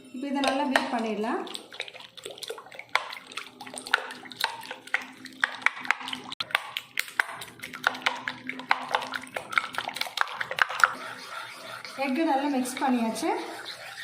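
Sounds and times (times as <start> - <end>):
utensil beating egg in bowl: 0.2 - 14.0.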